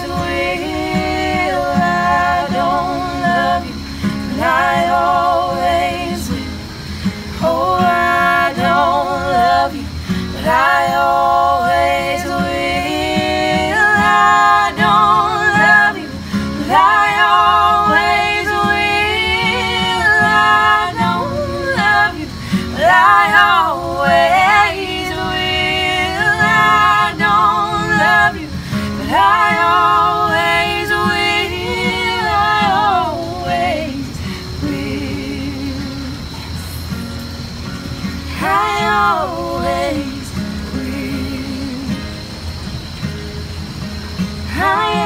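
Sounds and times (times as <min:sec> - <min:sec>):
person singing with vibrato: 0:00.0 - 0:36.8, 0:38.3 - 0:42.0, 0:44.4 - 0:45.0
acoustic guitar: 0:00.0 - 0:45.0.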